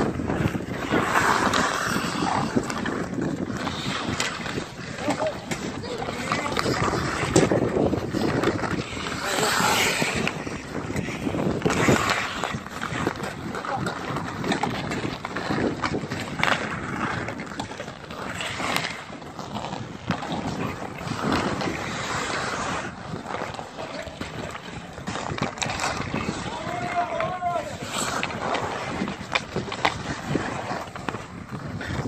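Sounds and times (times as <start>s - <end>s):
skates scraping across ice: 0.0s - 32.0s
sticks clacking on ice and puck: 0.0s - 32.0s
wind buffeting microphone: 0.0s - 32.0s.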